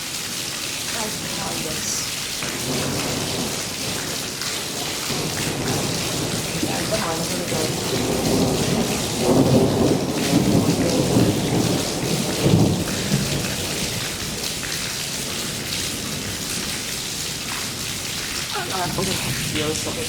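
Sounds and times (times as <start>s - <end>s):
heavy rain: 0.0s - 20.0s
thunder rumbling: 1.0s - 20.0s.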